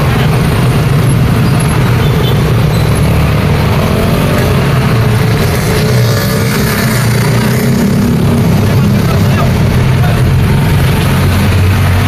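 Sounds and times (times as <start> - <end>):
scooters and motorcycles passing: 0.0 - 12.0
truck engine: 0.0 - 12.0.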